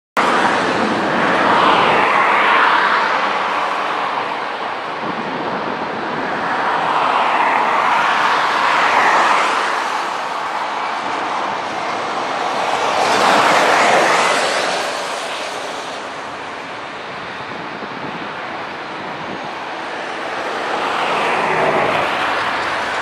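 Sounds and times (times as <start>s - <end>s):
jet engines roaring: 0.2s - 23.0s.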